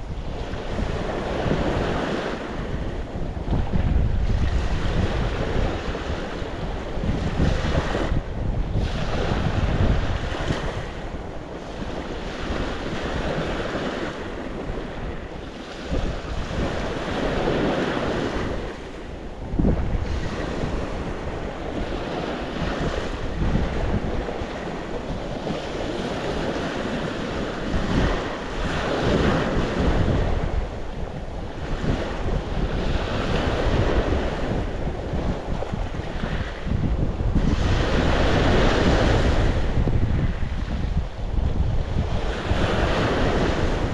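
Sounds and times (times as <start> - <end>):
sea waves breaking on shore: 0.0 - 43.9
wind buffeting microphone: 0.0 - 43.9.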